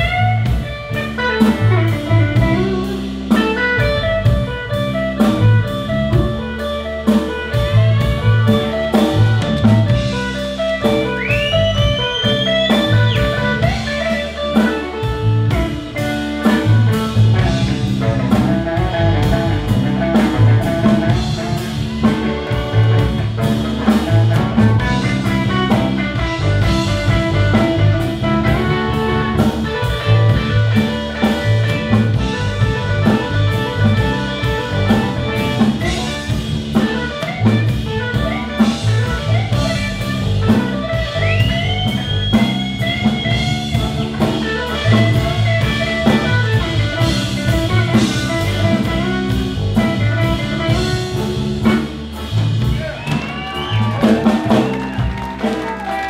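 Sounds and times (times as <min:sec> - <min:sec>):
harmonica: 0:00.0 - 0:51.7
blues band playing: 0:00.0 - 0:56.0
electric guitar: 0:00.0 - 0:56.0.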